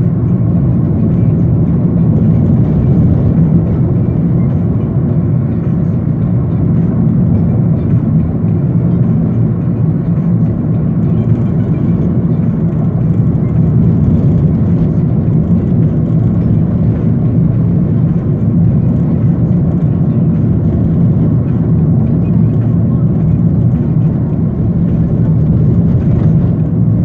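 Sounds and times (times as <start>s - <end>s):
car road and wind noise: 0.0s - 27.0s.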